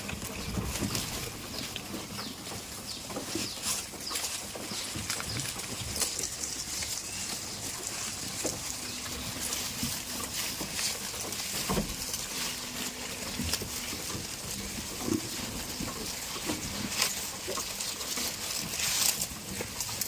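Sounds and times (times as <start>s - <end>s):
goats calling: 0.0s - 20.0s.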